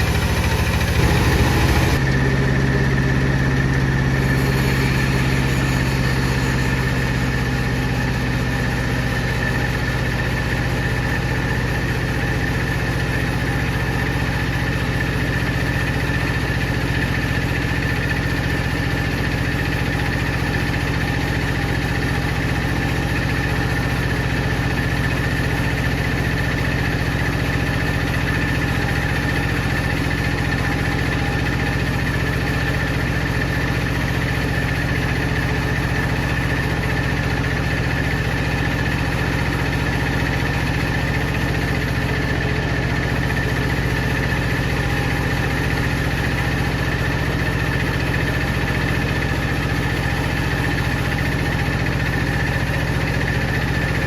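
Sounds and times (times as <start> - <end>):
power saw running: 0.0 - 54.0.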